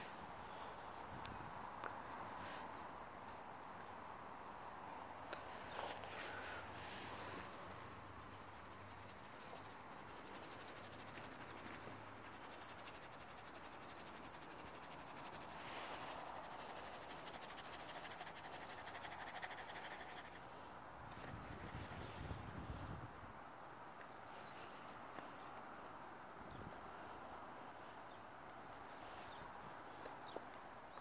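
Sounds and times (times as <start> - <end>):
faint outdoor hiss: 0.0 - 31.0.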